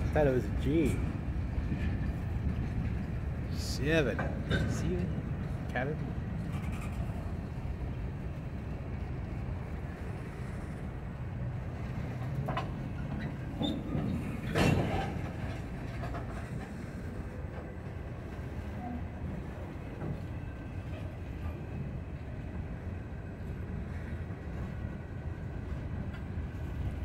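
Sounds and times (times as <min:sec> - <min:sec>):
freight train rumbling: 0:00.0 - 0:27.0.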